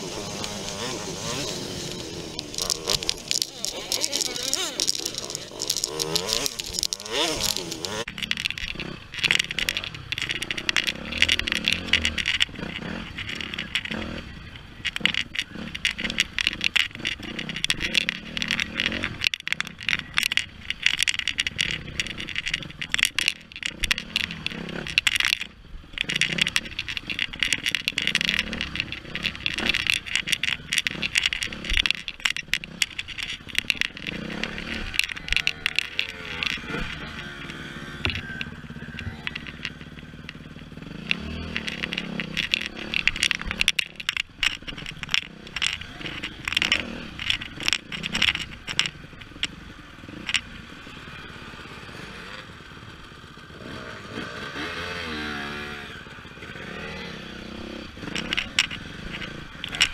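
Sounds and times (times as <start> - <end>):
bike and camera rattling: 0.0 - 59.9
dirt bike engine revving: 0.0 - 59.9.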